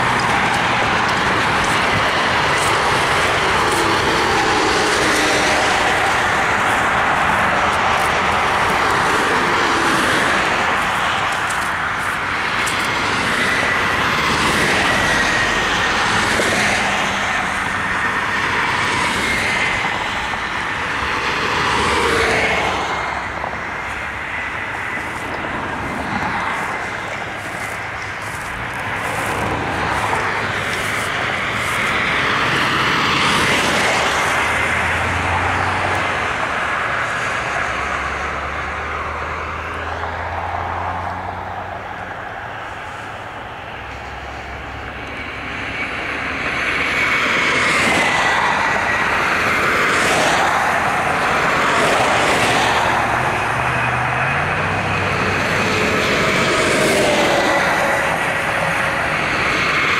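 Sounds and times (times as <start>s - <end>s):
vehicle road and wind noise: 0.0s - 59.9s.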